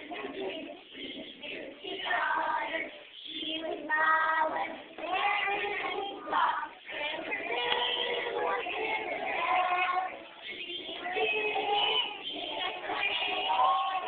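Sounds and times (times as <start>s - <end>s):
children singing together: 0.0s - 14.0s.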